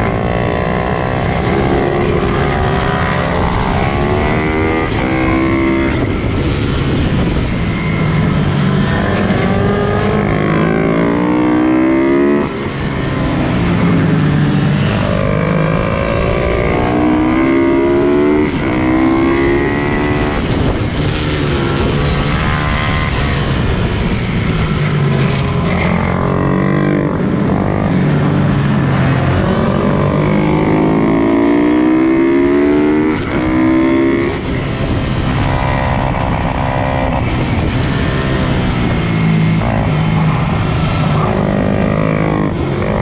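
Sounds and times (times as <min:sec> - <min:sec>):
pit bike engines racing: 0:00.0 - 0:43.0.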